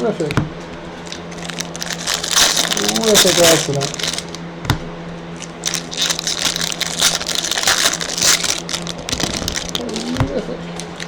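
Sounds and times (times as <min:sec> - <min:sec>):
steady low hum: 0:00.0 - 0:11.0
card wrappers crinkling and rustling: 0:00.4 - 0:11.0.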